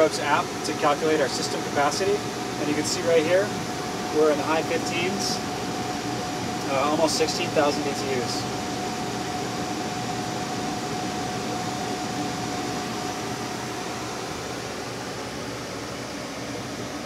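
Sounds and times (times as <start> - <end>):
air conditioner air rushing: 0.0 - 17.0.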